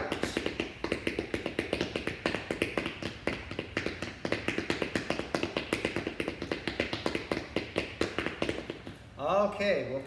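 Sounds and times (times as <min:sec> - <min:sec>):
shoes tapping on hard floor: 0:00.0 - 0:09.0.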